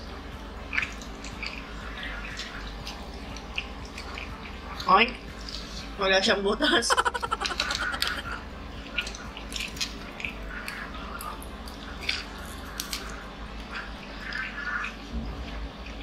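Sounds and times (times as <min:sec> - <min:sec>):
people chewing: 0:00.0 - 0:06.0, 0:06.7 - 0:16.0.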